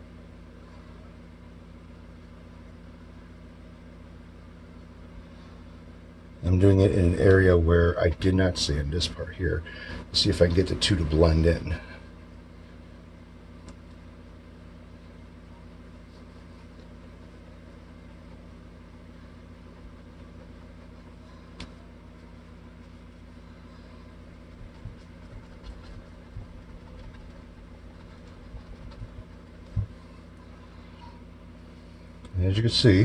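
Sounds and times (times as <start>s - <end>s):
low room hum: 0.0s - 33.0s.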